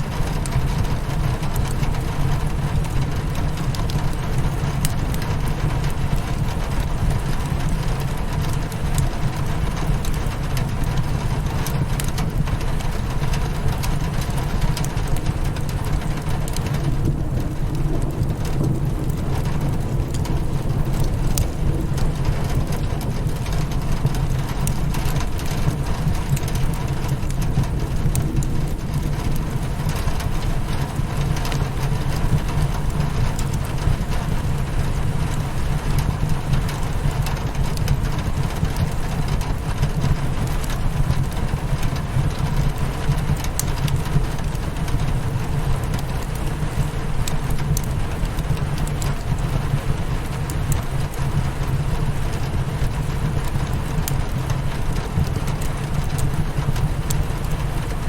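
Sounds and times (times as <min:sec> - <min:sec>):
rain on a window: 0:00.0 - 0:58.0
wood fire crackling: 0:00.0 - 0:58.0.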